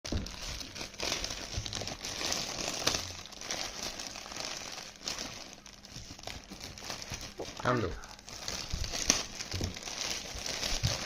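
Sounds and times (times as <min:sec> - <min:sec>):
packaging crinkling: 0:00.1 - 0:11.0.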